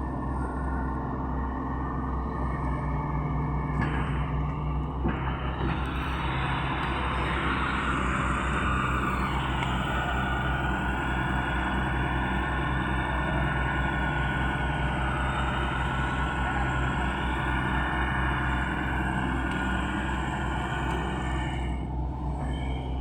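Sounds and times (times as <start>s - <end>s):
excavator diesel engine running: 0.0s - 23.0s
high-pitched whine: 0.0s - 23.0s.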